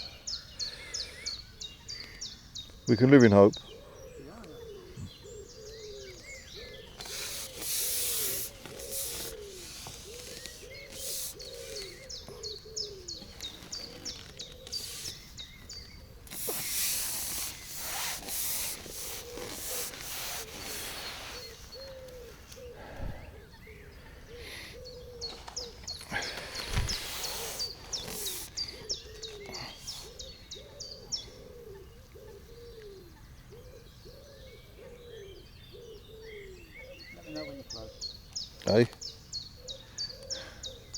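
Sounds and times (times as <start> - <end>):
high bird chirps: 0.0 - 31.4, 35.2 - 40.9
birds calling and singing: 0.0 - 40.9.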